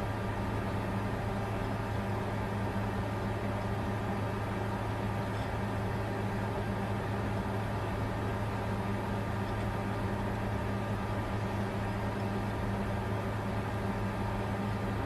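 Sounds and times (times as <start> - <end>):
cooling fans whirring: 0.0 - 15.0
low constant hum: 0.0 - 15.0.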